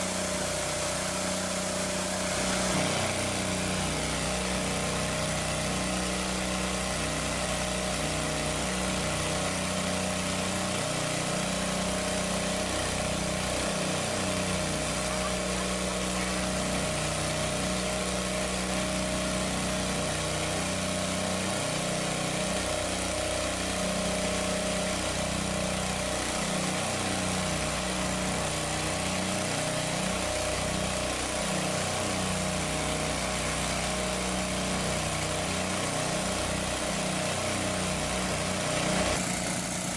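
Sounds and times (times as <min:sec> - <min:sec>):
small engine humming: 0:00.0 - 0:39.9.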